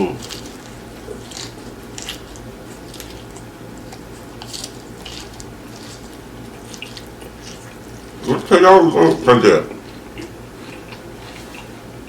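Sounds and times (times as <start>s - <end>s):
wet chewing mouth sounds: 0.0s - 11.9s
steady low hum: 0.0s - 12.0s.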